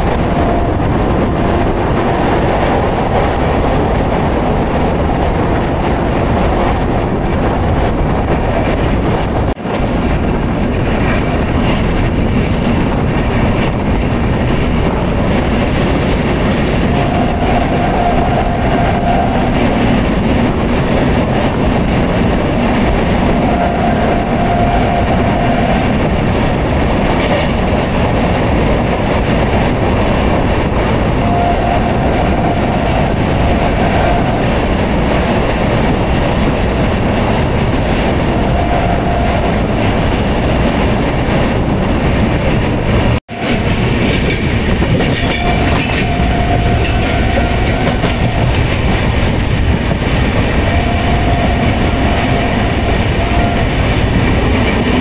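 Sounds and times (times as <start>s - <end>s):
clickety-clack over rail joints: 0.0s - 55.0s
train wheels rumbling on track: 0.0s - 55.0s.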